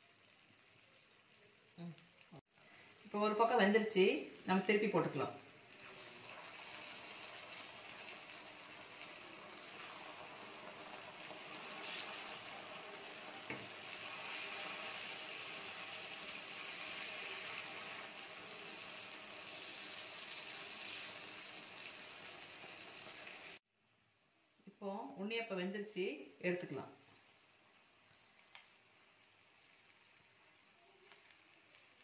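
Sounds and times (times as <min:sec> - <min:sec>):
batter deep-frying with sizzle: 0:00.0 - 0:32.0.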